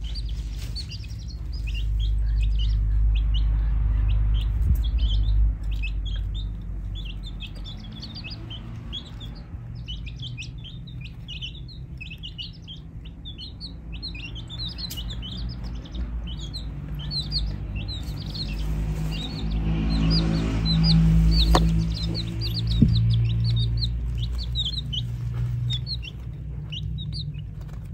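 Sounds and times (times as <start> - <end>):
baby chicks peeping: 0.0 - 27.9
low rumble: 0.0 - 27.9.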